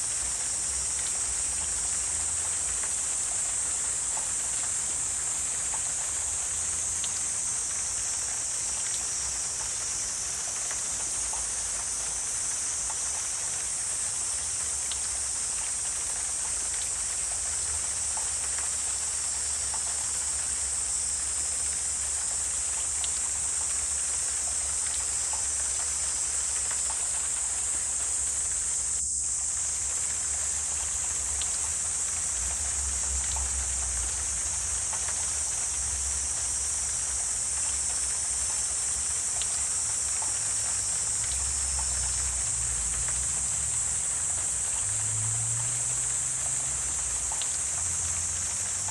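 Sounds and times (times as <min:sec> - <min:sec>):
faint ticks: 0:00.9 - 0:07.8, 0:08.7 - 0:48.9
high-pitched insect drone: 0:04.6 - 0:48.9.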